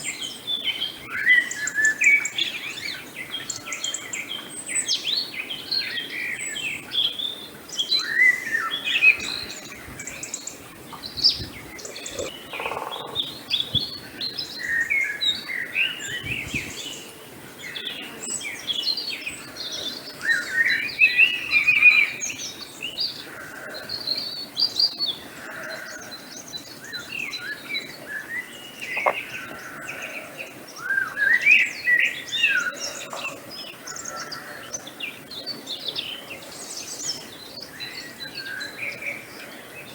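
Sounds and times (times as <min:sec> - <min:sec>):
faint outdoor hiss: 0:00.0 - 0:39.9
songbirds chirping and singing: 0:00.0 - 0:39.9.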